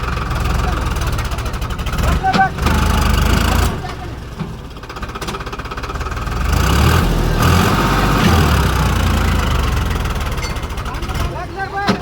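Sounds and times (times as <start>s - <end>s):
tractor engine working under load: 0.0s - 12.0s.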